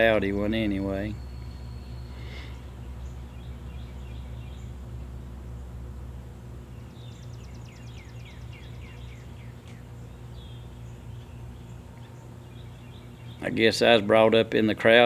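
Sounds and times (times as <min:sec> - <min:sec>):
songbird chirping: 0:00.0 - 0:15.0
steady low hum: 0:00.0 - 0:15.0.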